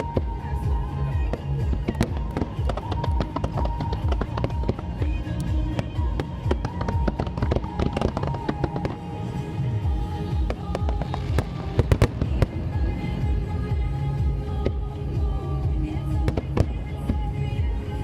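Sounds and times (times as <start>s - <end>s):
fireworks bursting and crackling: 0.0s - 13.5s, 16.1s - 17.4s
music: 0.0s - 18.0s.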